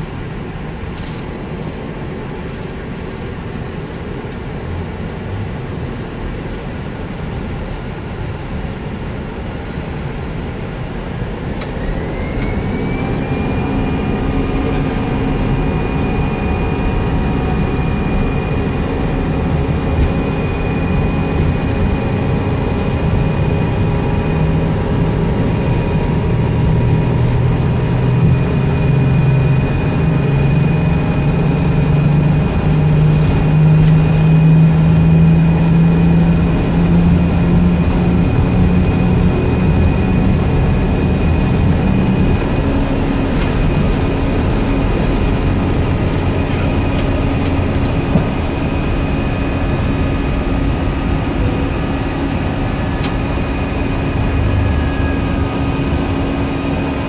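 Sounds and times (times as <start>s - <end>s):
jet engines whining: 0.0s - 57.0s
low rumble: 0.0s - 57.0s.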